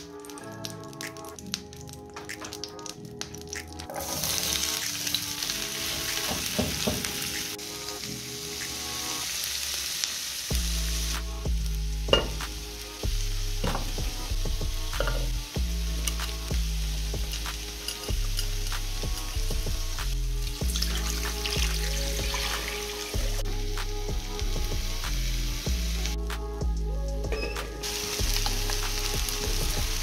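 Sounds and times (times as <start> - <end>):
background music: 0.0 - 30.0
onions sizzling in a frying pan: 3.9 - 26.2, 27.8 - 30.0.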